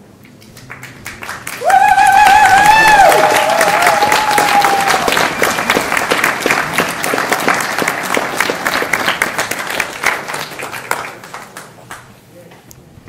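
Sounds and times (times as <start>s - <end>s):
audience applauding: 0.3s - 12.2s.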